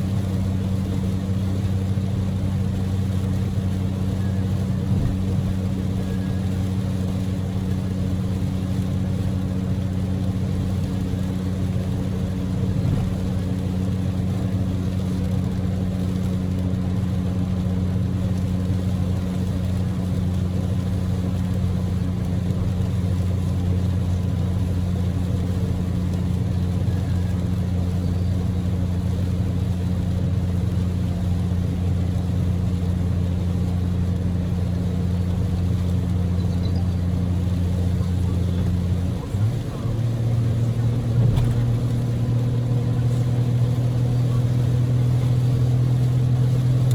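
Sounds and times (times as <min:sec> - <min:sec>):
car engine and road drone: 0:00.0 - 0:46.9
tyres on wet road: 0:00.0 - 0:46.9.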